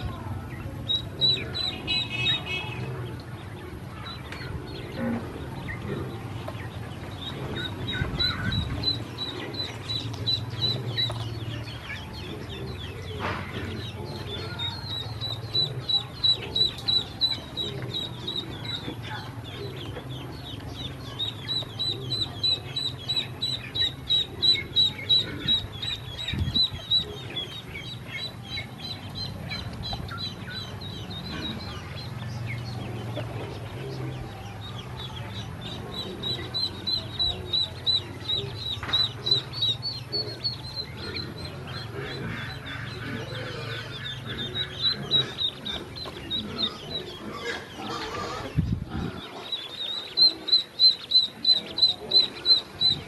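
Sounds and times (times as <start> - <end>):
ducklings peeping: 0.0 - 53.0.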